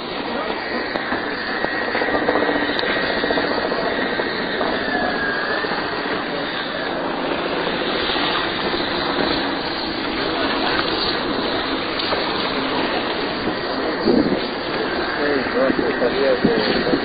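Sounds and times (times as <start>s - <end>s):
steady engine roar: 0.0s - 17.0s.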